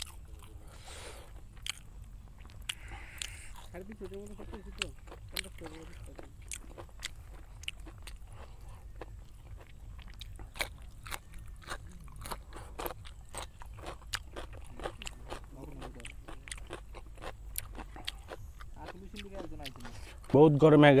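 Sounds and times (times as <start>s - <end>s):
chewing and wet mouth smacks: 1.3s - 20.4s.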